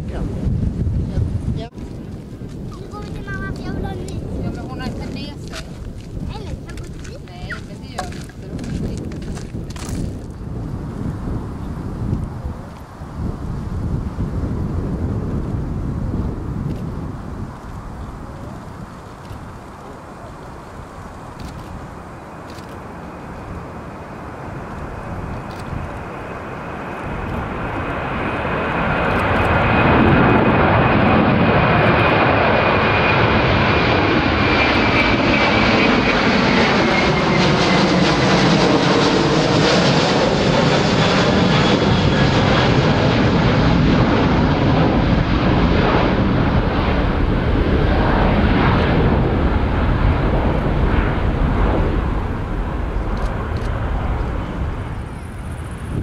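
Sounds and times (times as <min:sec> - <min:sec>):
jet airliner passing overhead: 0:00.0 - 0:56.0.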